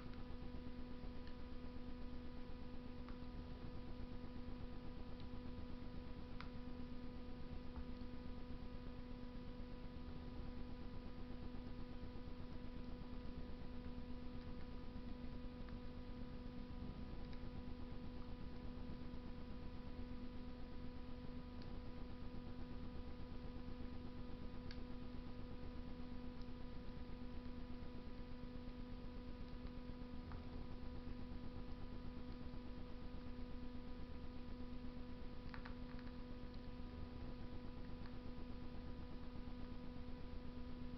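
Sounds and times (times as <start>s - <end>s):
electrical hum: 0.0s - 40.9s
faint fire crackles: 0.0s - 40.9s.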